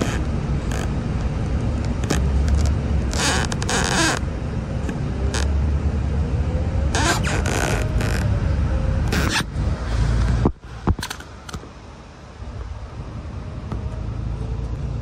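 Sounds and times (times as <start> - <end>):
bus engine rumble: 0.0 - 15.0
bus rattles and knocks: 0.0 - 15.0.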